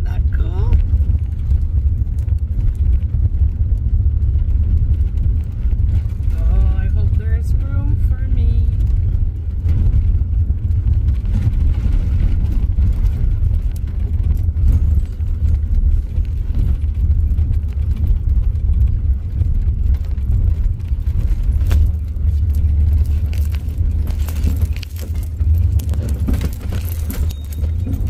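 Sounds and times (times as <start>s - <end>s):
van engine and tyre rumble: 0.0s - 28.0s.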